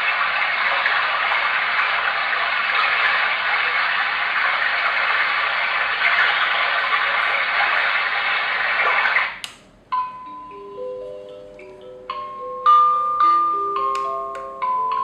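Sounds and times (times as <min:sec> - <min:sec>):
white noise machine hiss: 0:00.0 - 0:15.0.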